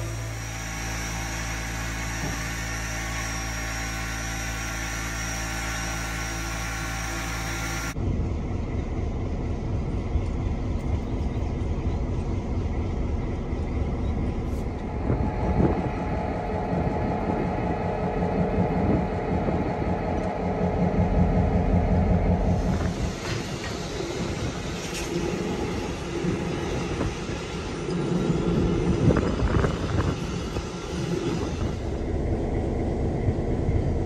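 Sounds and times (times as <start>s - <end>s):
diesel locomotive engine rumbling: 0.0s - 34.0s
steady higher hum: 0.0s - 34.0s.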